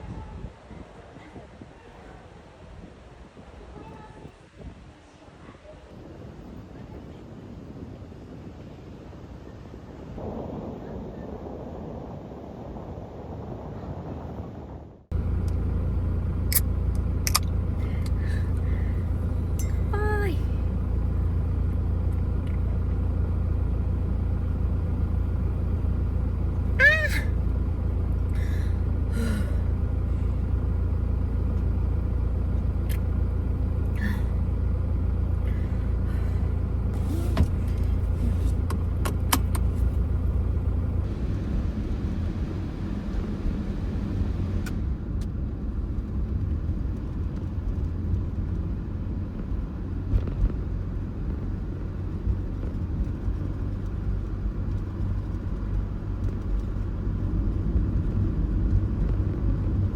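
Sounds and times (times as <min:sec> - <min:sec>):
van road and engine rumble: 0:00.0 - 0:59.9.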